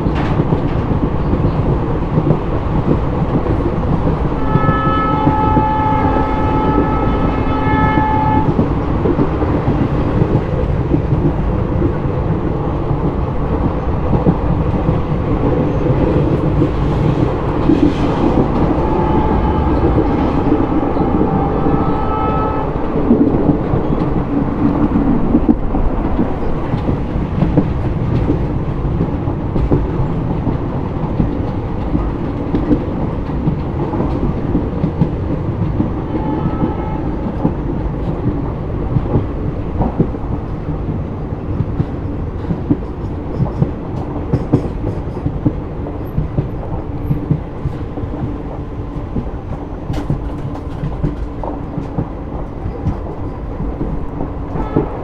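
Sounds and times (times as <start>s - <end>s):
clacks over rail joints: 0.0s - 55.0s
train wheels rumbling on rails: 0.0s - 55.0s.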